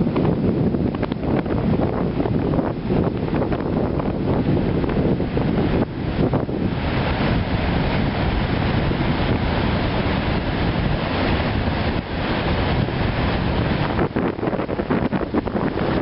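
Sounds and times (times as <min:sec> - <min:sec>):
heavy surf rushing: 0:00.0 - 0:16.0
wind buffeting microphone: 0:00.0 - 0:16.0.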